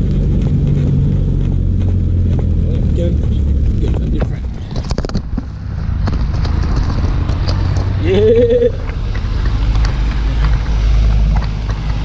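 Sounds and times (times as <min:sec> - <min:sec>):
motorcycle engine and road noise: 0:00.0 - 0:12.0.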